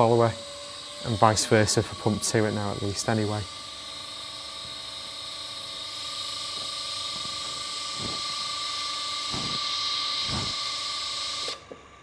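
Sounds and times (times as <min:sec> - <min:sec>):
electric pump motors whirring: 0:00.0 - 0:12.0.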